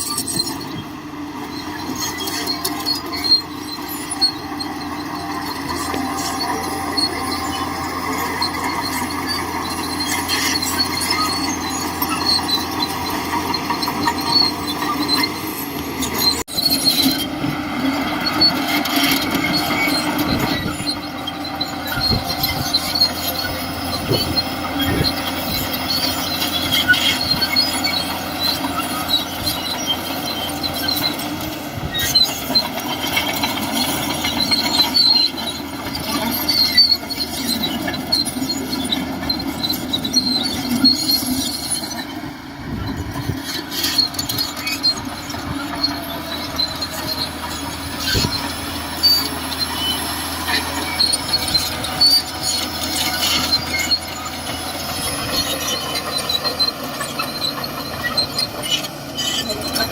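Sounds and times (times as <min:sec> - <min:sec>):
bulldozer engine running: 0:00.0 - 0:59.9
steel tracks squeaking: 0:00.0 - 0:59.9.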